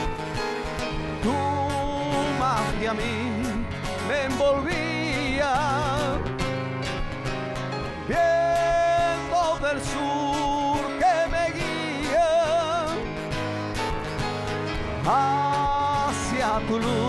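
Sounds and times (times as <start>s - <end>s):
man singing with vibrato: 0.0s - 6.7s, 7.9s - 13.7s, 14.6s - 17.0s
keyboard accompaniment: 0.0s - 17.0s.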